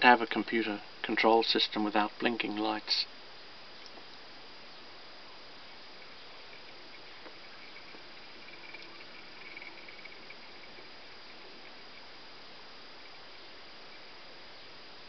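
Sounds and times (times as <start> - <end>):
faint stepper motor whine: 0.0 - 15.0
steady hiss: 0.0 - 15.0.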